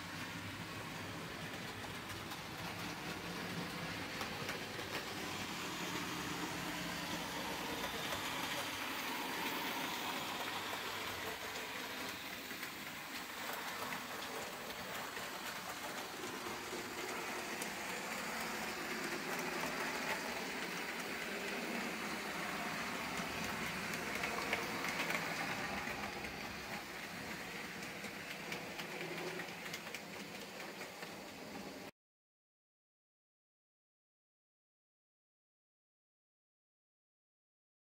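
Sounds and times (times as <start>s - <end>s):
model train motor whirring: 0.6s - 31.9s.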